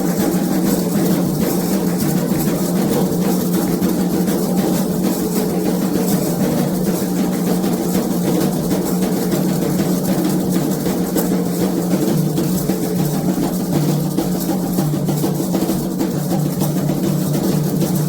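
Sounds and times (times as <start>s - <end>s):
hand drums playing fast rhythm: 0.0s - 18.0s.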